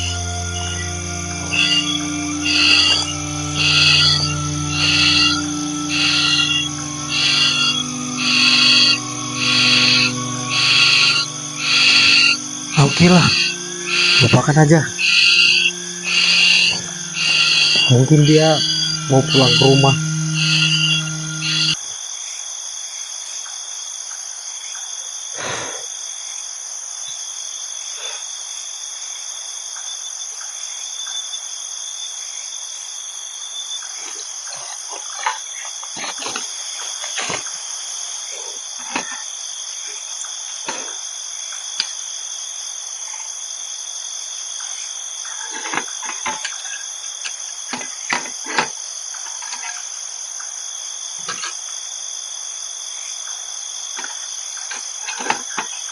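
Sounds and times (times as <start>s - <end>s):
insect chorus trilling: 0.0s - 55.9s.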